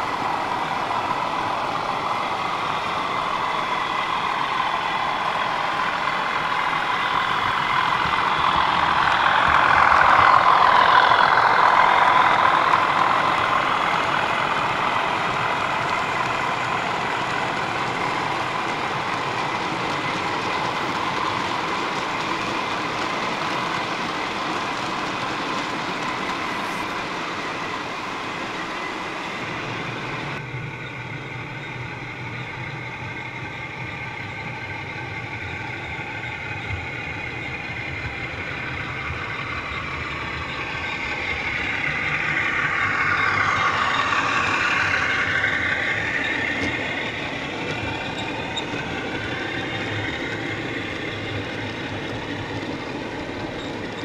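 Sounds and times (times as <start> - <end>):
model train wheels clattering: 3.6 - 29.3, 33.4 - 54.0.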